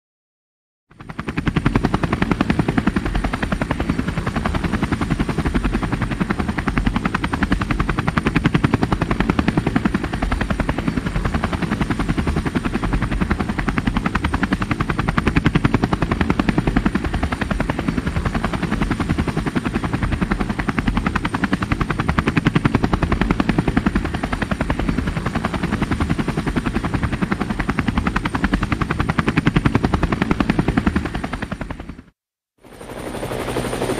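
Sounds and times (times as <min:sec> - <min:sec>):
helicopter rotor beating: 0:00.9 - 0:33.9.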